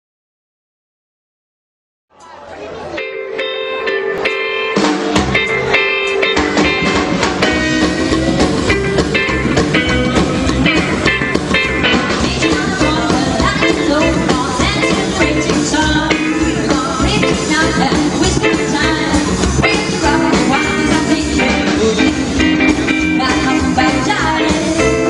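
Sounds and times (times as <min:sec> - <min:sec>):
electric guitar notes: 0:02.7 - 0:25.0
drums and bass beat: 0:03.4 - 0:25.0.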